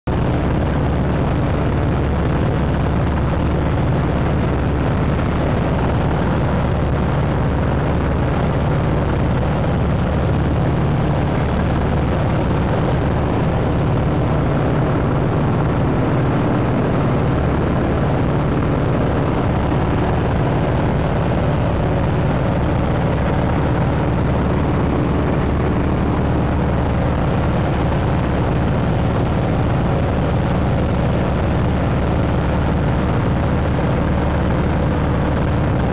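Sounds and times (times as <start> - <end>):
aircraft engine and propeller: 0.0 - 35.9.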